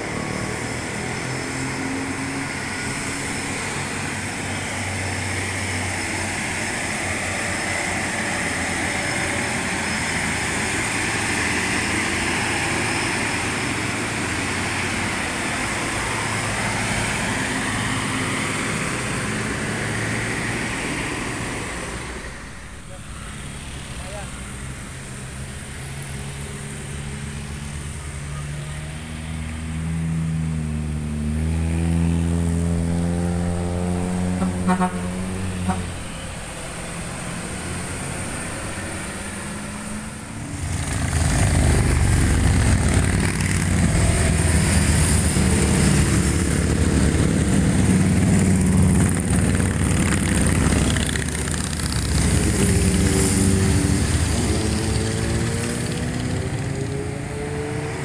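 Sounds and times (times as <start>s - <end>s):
engine revving uphill: 0.0s - 58.0s
rough engine and road noise: 0.0s - 58.0s.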